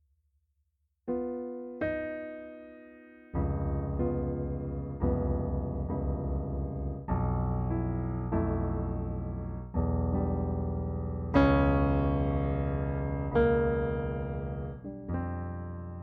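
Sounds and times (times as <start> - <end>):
slow piano chords: 1.1 - 16.0.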